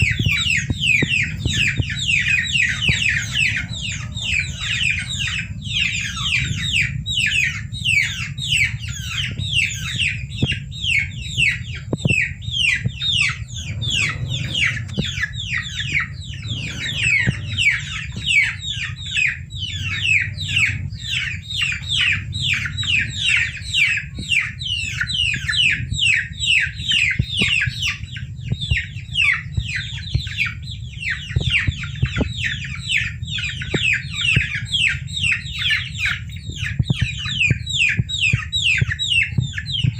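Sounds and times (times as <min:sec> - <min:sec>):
baby chicks peeping: 0:00.0 - 0:39.9
low steady hum: 0:00.0 - 0:39.9.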